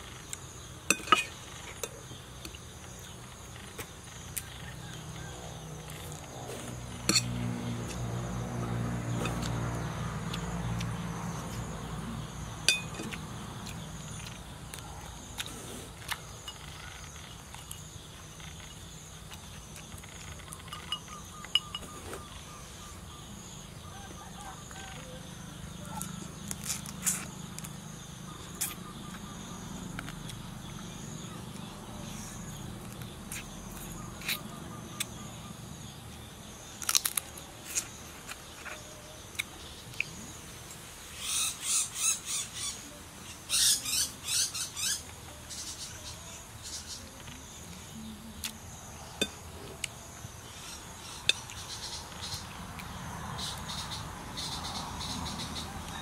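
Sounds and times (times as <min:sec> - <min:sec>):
insect chirring: 0:00.0 - 0:56.0.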